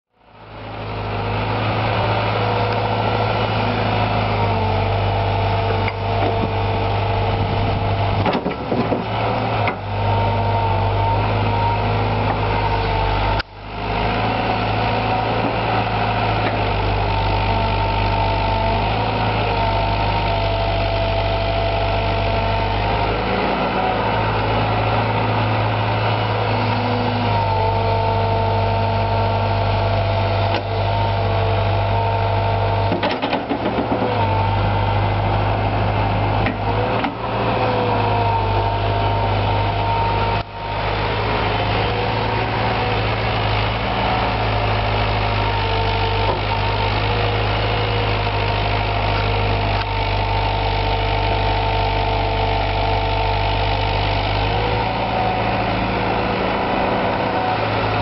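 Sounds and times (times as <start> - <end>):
excavator diesel engine running: 0.2 - 58.0.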